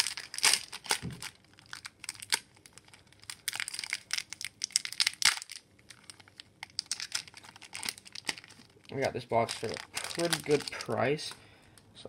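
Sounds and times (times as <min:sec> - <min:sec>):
foil wrapper crinkling and tearing: 0:00.0 - 0:11.4.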